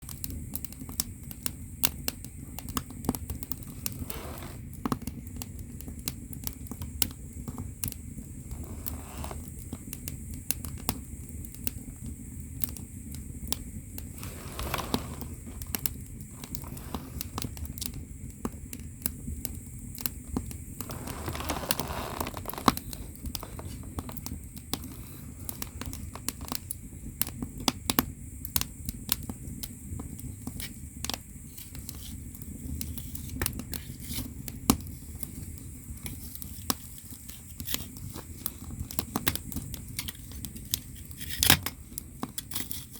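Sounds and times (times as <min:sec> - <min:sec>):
firewood crackling and popping: 0:00.0 - 0:42.9
low rumble of fire: 0:00.0 - 0:42.9
fire hissing: 0:00.1 - 0:42.9.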